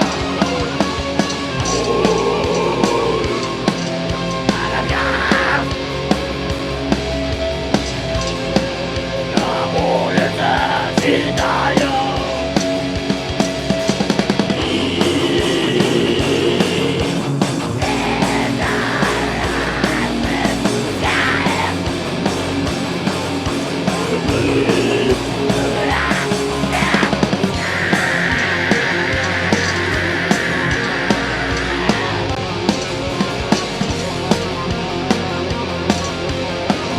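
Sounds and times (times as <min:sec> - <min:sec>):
heavy metal band playing: 0:00.0 - 0:36.9.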